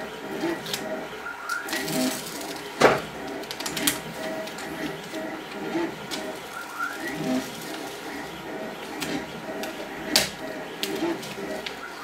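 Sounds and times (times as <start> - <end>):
printer stepper motors chirping: 0.0 - 12.0
sheet crinkling and rubbing: 1.7 - 12.0.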